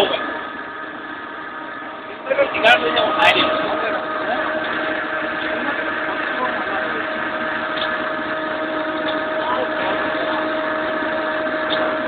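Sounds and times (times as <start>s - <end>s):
machine tools humming: 0.0s - 12.0s.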